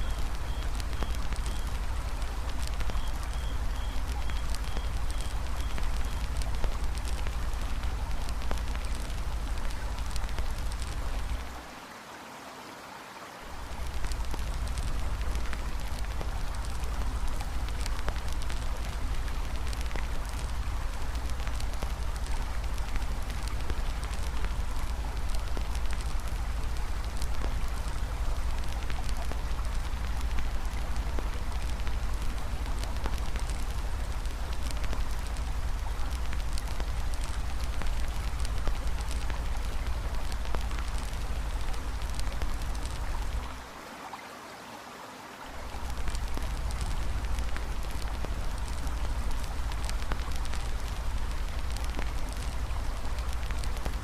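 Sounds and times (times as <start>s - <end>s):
campfire crackling and popping: 0.0s - 11.6s, 13.5s - 43.7s, 45.6s - 54.0s
flowing river: 0.0s - 54.0s.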